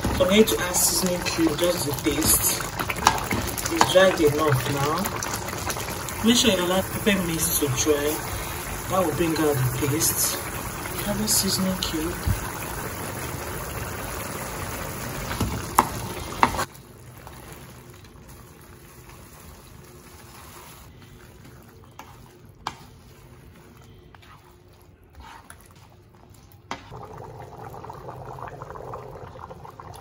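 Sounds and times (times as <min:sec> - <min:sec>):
pot of beans simmering: 0:00.0 - 0:30.0
tomato sauce bubbling: 0:00.0 - 0:30.0.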